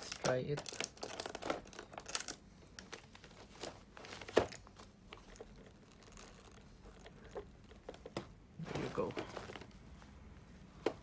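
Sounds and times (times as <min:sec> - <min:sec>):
plastic crinkling and scraping: 0:00.0 - 0:10.1.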